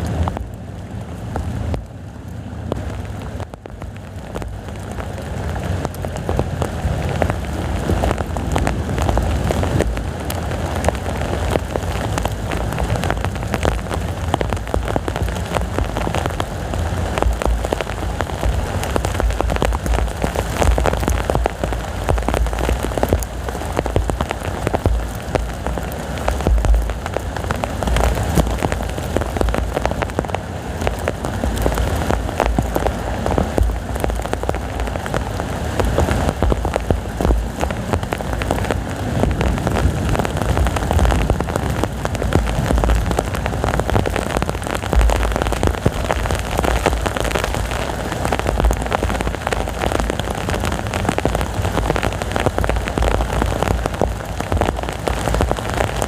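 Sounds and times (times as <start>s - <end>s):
gusting wind rumble: 0.0s - 56.0s
heavy rain pouring: 0.0s - 56.0s.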